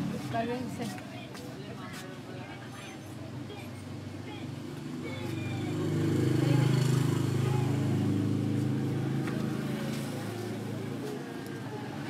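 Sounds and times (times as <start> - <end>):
motor vehicle engine hum: 0.0 - 12.0.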